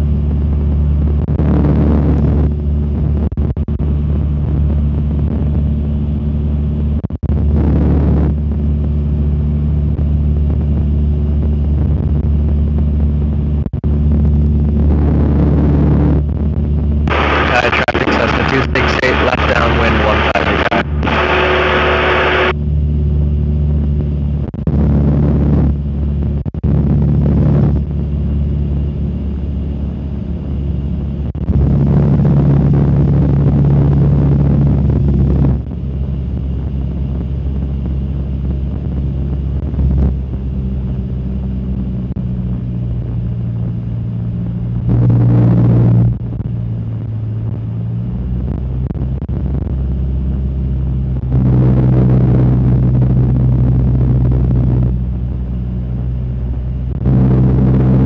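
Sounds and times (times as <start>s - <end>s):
airplane engine droning: 0.0s - 58.0s.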